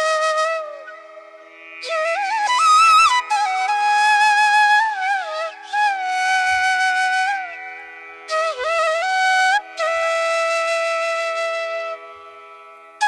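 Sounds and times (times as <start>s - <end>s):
solo flute melody: 0.0s - 12.7s.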